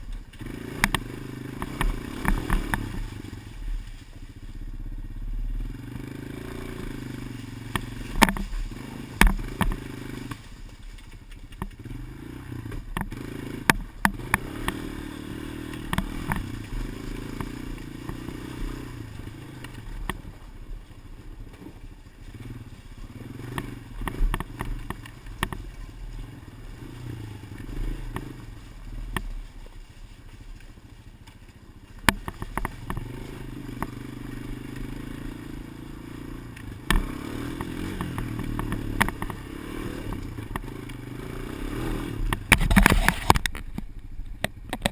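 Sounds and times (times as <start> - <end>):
engine humming: 0.0 - 44.9.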